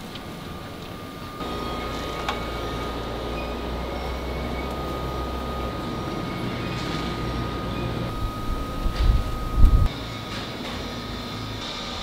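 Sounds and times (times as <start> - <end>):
machinery humming: 0.0 - 12.0
thin steady whine: 0.0 - 12.0.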